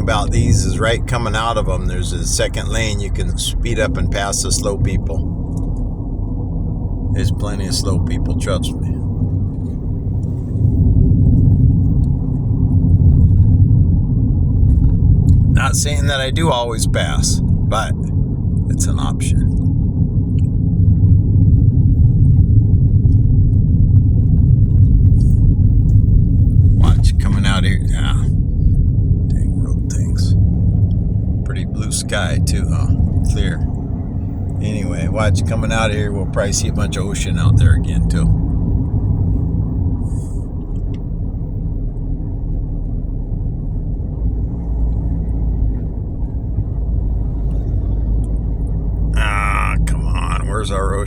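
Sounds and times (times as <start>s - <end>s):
car driving at highway speed: 0.0s - 51.0s.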